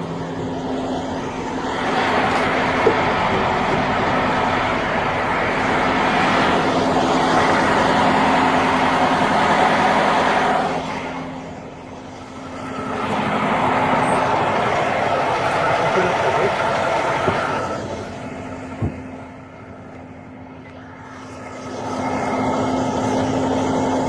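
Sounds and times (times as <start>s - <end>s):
steady engine hum: 0.0s - 24.0s
vehicles rushing past: 0.0s - 24.0s.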